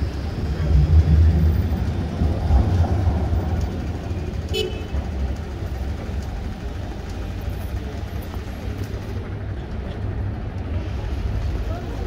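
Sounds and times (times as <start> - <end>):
low rumble of traffic: 0.0 - 12.0
tram moving along tracks: 0.0 - 12.0.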